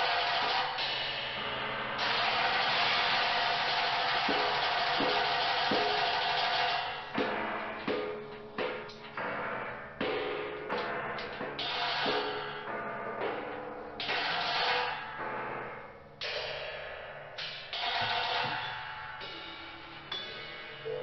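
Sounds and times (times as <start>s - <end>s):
ringing percussion strikes: 0.0s - 21.0s.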